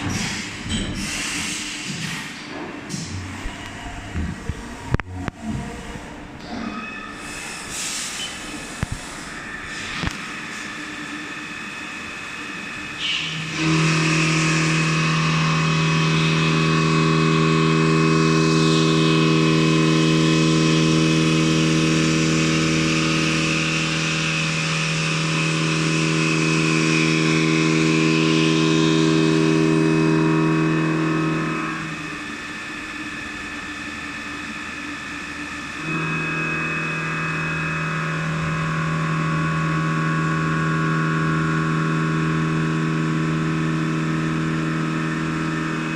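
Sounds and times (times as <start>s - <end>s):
milling machine hum with hiss: 0.0s - 45.9s.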